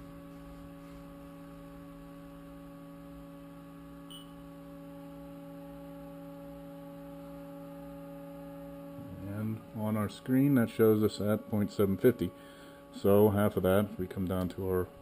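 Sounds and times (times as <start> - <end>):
electrical hum of idle mill: 0.0 - 15.0.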